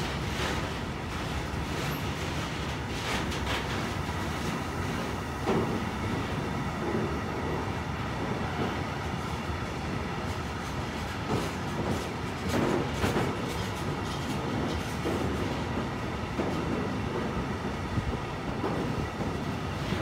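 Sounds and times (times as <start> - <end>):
wheels clacking over rail joints: 0.0 - 9.4, 10.2 - 20.0
train wheels rumbling on rail: 0.0 - 20.0.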